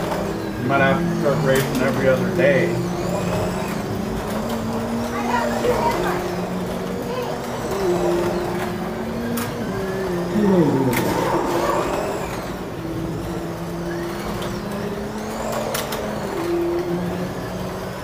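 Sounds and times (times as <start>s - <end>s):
slot car electric motors whining: 0.0s - 18.0s.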